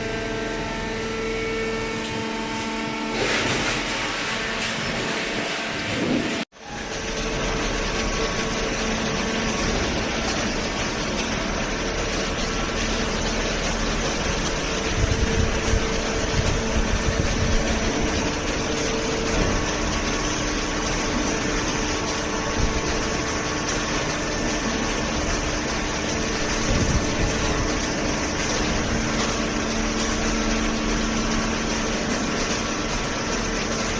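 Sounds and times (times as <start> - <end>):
hydraulic baler humming: 0.0 - 33.9.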